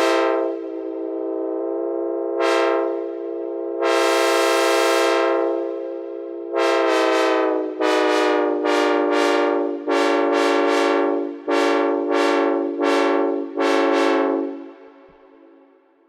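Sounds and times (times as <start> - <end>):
locomotive air horn chord: 0.0 - 16.0.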